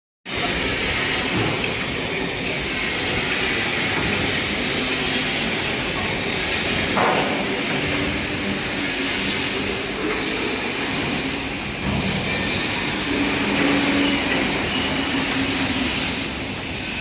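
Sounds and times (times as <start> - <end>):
loud mechanical running noise: 0.3 - 17.0.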